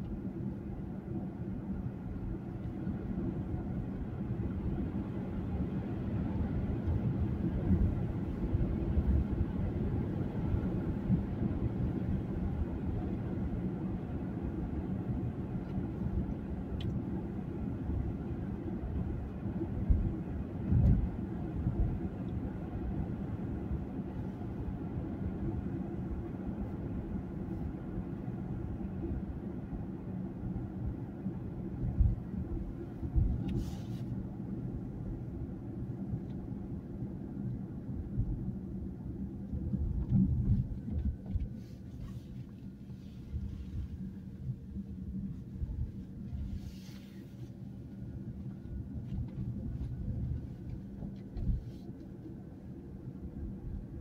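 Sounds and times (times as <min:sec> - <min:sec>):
road and engine rumble in car: 0:00.0 - 0:54.0.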